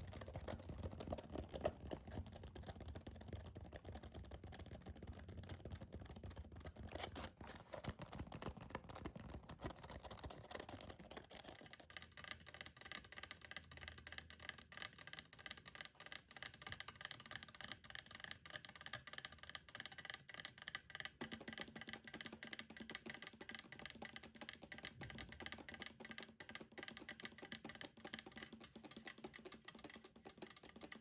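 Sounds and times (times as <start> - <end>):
fast fingernail tapping: 0.0 - 7.1, 7.9 - 31.0.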